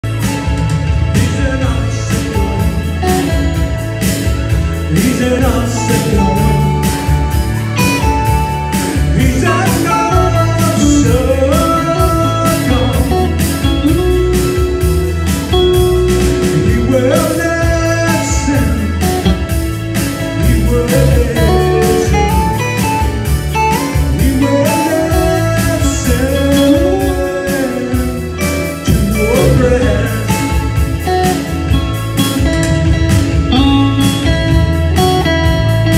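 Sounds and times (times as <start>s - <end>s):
electric bass: 0.0s - 35.9s
strummed acoustic guitar: 0.0s - 35.9s
man singing: 1.0s - 4.0s, 4.8s - 7.4s, 8.0s - 23.2s, 23.8s - 32.4s.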